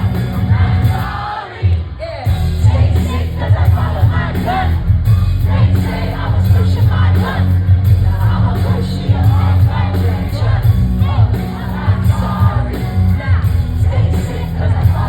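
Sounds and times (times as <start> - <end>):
hip-hop song with heavy bass beat: 0.0 - 15.0.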